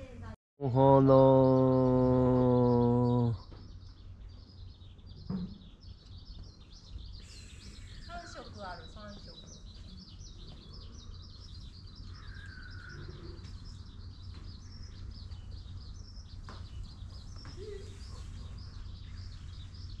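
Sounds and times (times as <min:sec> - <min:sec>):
small birds chirping: 0:00.7 - 0:20.0.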